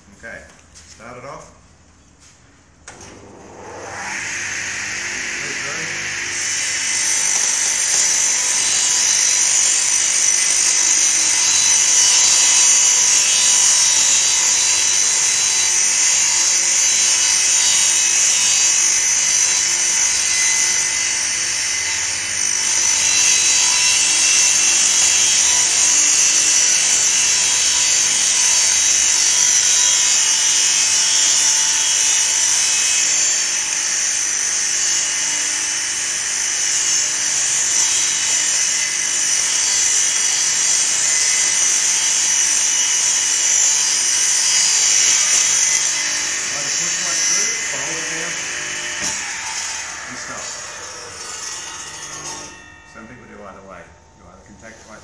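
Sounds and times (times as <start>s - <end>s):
table saw cutting wood: 2.9s - 53.4s.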